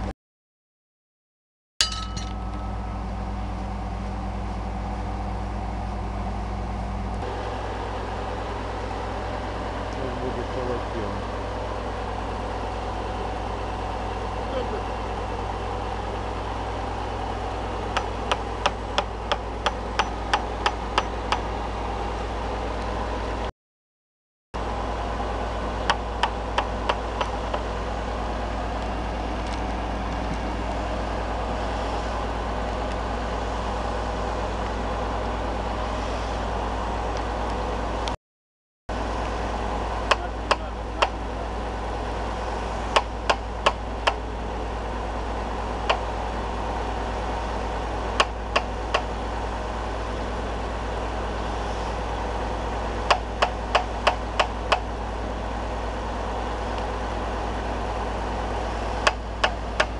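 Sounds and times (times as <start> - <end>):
drilling rig engine running: 1.8 - 23.5, 24.6 - 38.2, 38.9 - 59.9.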